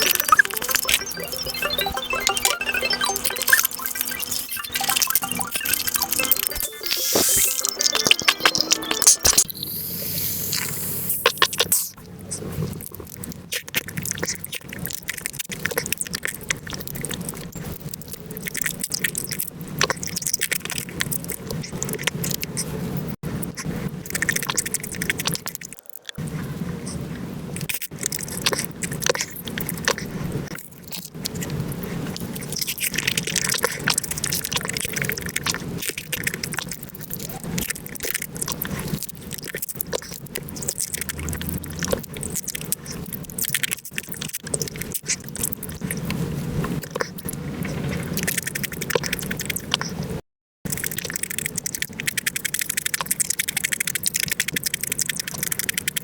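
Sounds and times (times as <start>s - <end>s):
rapid chewing and crunching: 10.5s - 56.0s.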